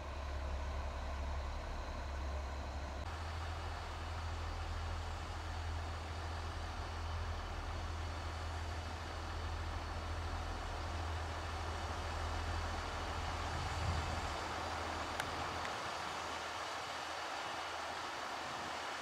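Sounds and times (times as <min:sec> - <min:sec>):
engine droning: 0:00.0 - 0:19.0
steady hiss: 0:00.0 - 0:19.0.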